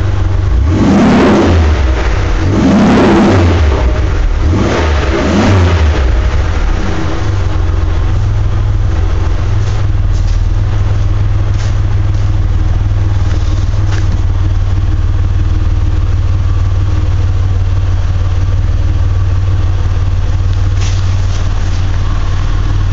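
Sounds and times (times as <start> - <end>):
car engine revving and idling: 0.0 - 22.9.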